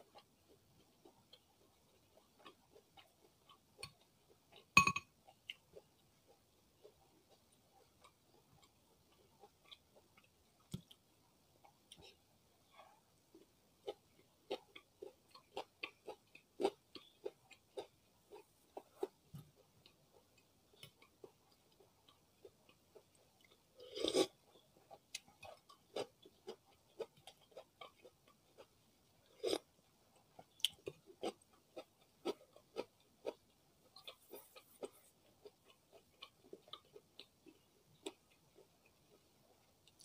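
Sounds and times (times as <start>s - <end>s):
close chewing with mouth clicks: 0.0s - 40.0s.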